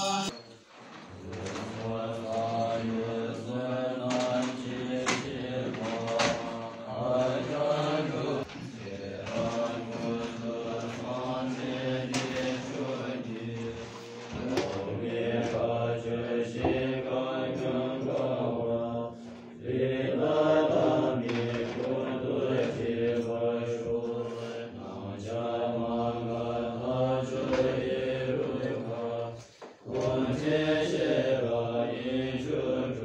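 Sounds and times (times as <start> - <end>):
monks chanting in unison: 0.0 - 0.4, 1.0 - 33.0.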